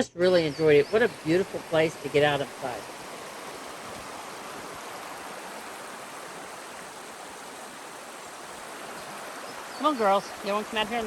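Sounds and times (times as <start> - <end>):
creek water rushing: 0.7 - 11.0.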